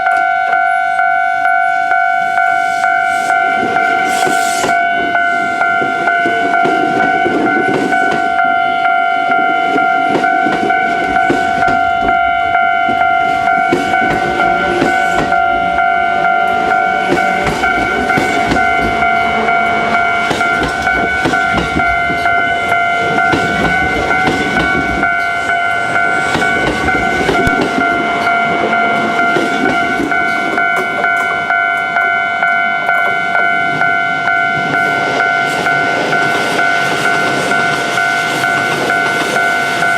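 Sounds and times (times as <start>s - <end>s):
level crossing warning bell: 0.0s - 39.9s
train rumbling past: 0.0s - 39.9s
train wheels clacking over rails: 2.8s - 39.9s.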